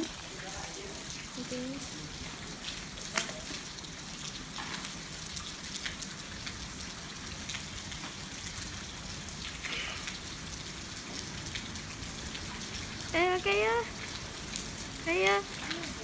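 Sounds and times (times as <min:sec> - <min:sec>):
raindrops ticking: 0:00.0 - 0:16.0
steady rain falling: 0:00.0 - 0:16.0.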